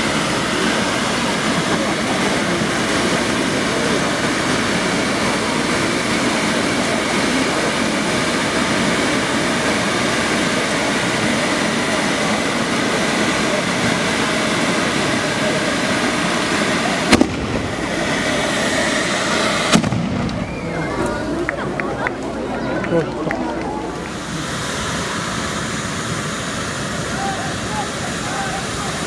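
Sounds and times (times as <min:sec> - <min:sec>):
fireworks spraying sparks hissing: 0:00.0 - 0:29.0.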